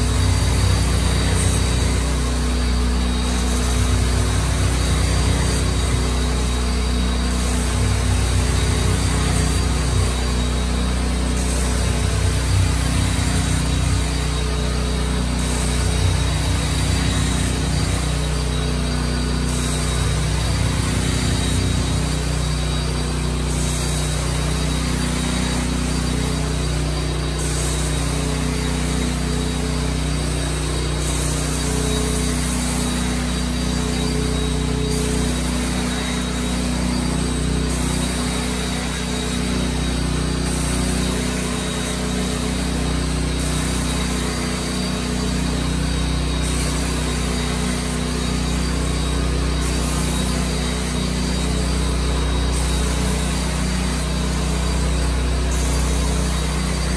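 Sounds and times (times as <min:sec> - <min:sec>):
carpet cleaner hissing: 0:00.0 - 0:56.9
carpet-cleaning machine hum: 0:00.0 - 0:56.9.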